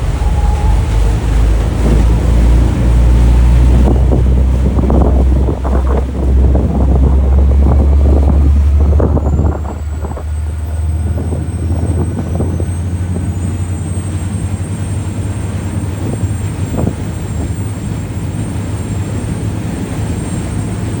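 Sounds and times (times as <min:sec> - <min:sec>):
boat engine droning: 0:00.0 - 0:21.0
wind buffeting microphone: 0:00.0 - 0:21.0.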